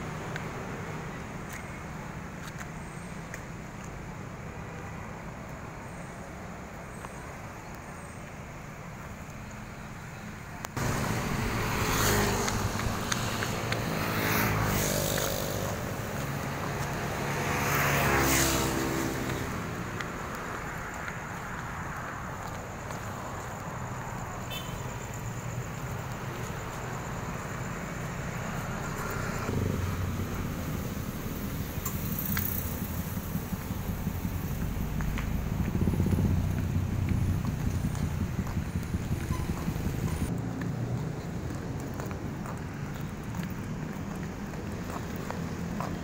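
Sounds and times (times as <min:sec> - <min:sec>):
vehicle road noise: 0:00.0 - 0:46.0.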